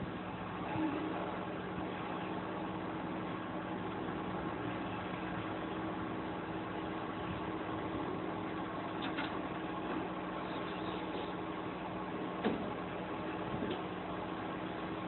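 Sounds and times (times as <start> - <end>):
mechanical hum with hiss: 0.0 - 15.0.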